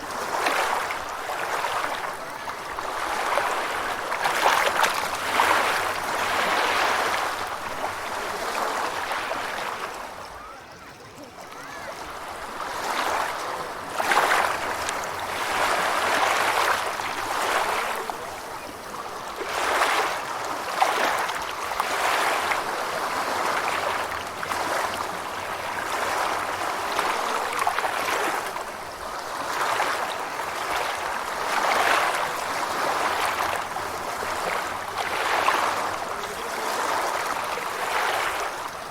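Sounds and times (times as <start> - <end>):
ocean waves washing in: 0.0 - 10.4, 11.0 - 38.9.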